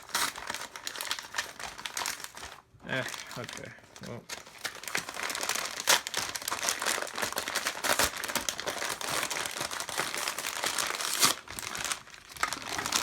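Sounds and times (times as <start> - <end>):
crinkly packaging crackling: 0.0 - 13.0
packaging crunches: 0.0 - 13.0.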